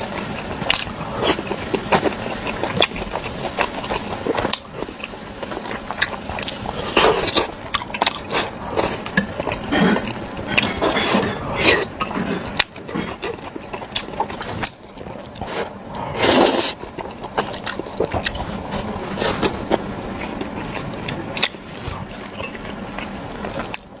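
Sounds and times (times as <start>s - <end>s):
chewing: 0.0s - 24.0s.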